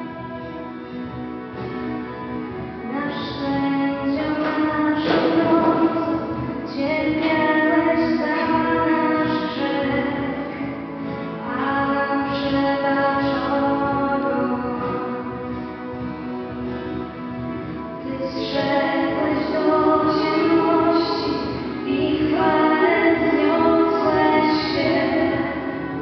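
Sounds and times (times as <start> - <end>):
slow instrumental music: 0.0 - 26.0.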